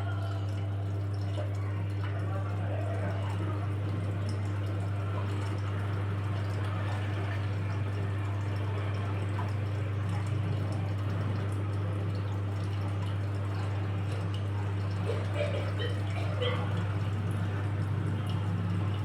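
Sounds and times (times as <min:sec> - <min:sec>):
low motor hum: 0:00.0 - 0:19.0
water sloshing in drum: 0:00.0 - 0:19.0.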